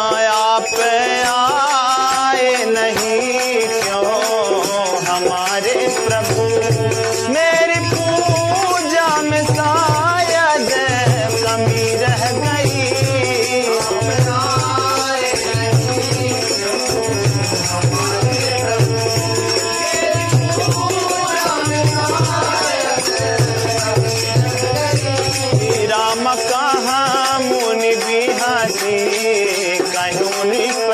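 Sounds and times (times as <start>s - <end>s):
devotional instrumental music: 0.0s - 30.9s.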